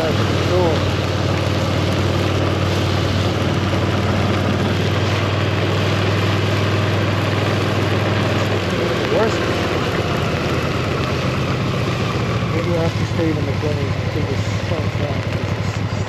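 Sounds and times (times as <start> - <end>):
motorcycle engine running: 0.0 - 16.0
steady hiss: 0.0 - 16.0.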